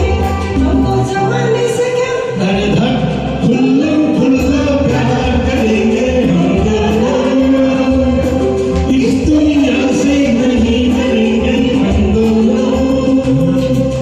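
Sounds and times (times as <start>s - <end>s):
person singing: 0.0s - 14.0s
steady bass beat: 2.4s - 14.0s.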